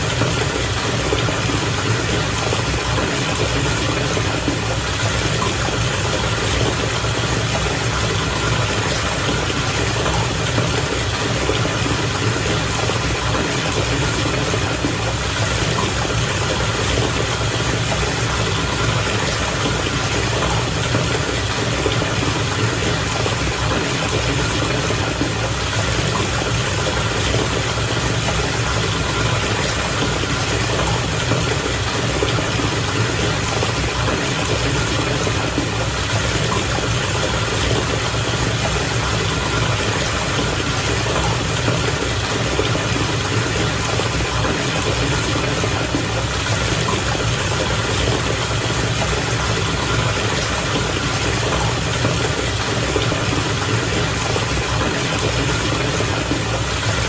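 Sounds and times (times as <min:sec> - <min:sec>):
water bubbling in a bath: 0:00.0 - 0:57.0.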